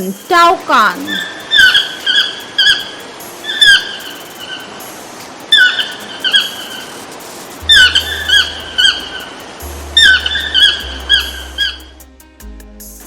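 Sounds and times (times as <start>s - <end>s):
toucan calling: 0.0s - 4.8s, 5.5s - 7.0s, 7.6s - 12.0s.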